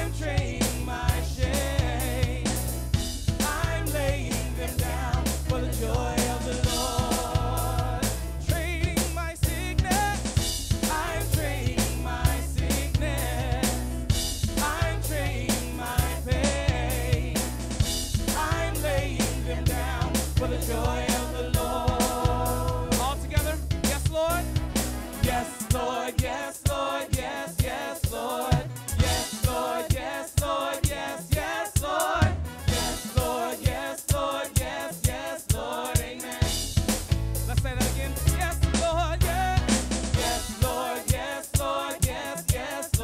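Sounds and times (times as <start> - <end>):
group singing together: 0.0 - 23.5, 24.1 - 36.9, 37.7 - 43.0
keyboard: 0.0 - 42.2
steady drum beat: 0.0 - 43.0.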